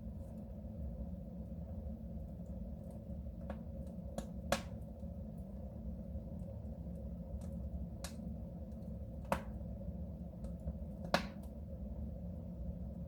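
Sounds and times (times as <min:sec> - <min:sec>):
wood fire crackling in stove: 0:00.0 - 0:13.0.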